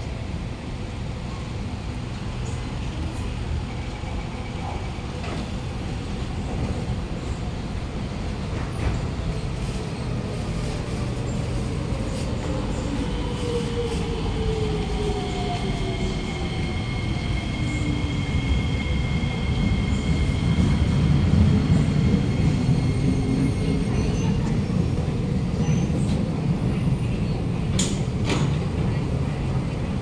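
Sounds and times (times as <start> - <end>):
low rumble of train cars: 0.0 - 30.0.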